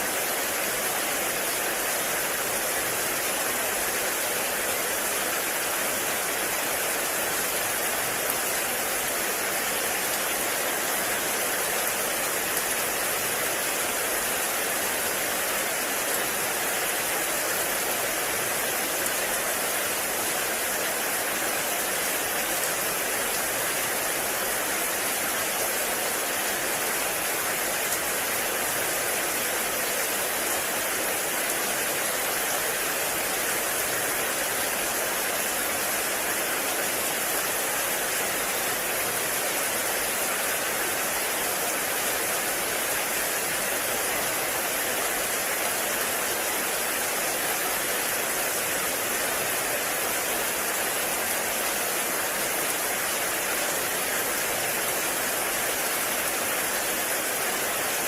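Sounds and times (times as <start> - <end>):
heavy rain on a forest: 0.0 - 58.0.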